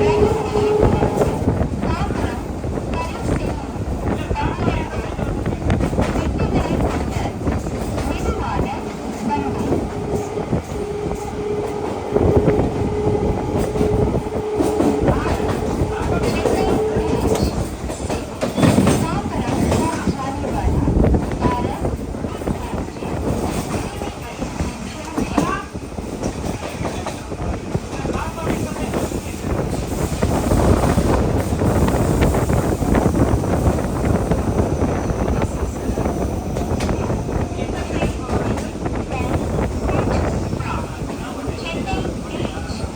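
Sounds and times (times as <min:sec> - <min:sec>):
train rumble: 0:00.0 - 0:42.9
train wheels clicking over joints: 0:00.0 - 0:42.9
wind buffeting microphone: 0:00.0 - 0:42.9.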